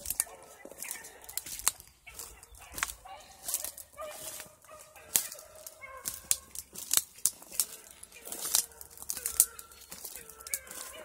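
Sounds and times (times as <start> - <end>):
sharp clicks and crackles: 0.0 - 4.4, 5.1 - 11.0
dogs yipping and whining: 0.0 - 6.6, 7.6 - 11.0.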